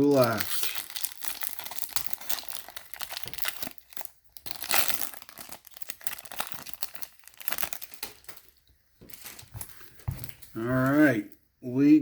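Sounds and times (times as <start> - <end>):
foil wrapper crinkling and tearing: 0.0 - 9.7.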